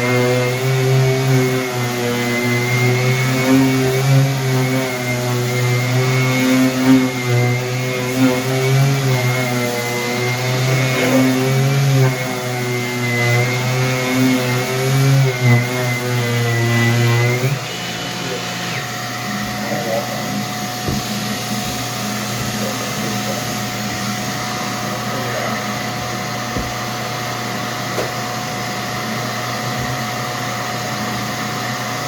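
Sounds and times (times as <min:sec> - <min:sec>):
power tool motor cutting: 0:00.0 - 0:28.9.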